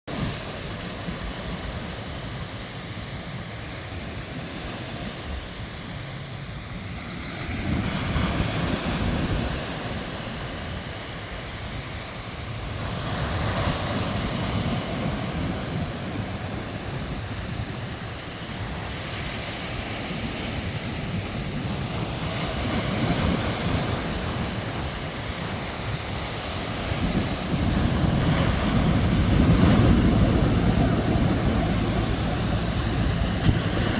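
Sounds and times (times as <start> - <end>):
waves breaking on shore: 0.1 - 33.9.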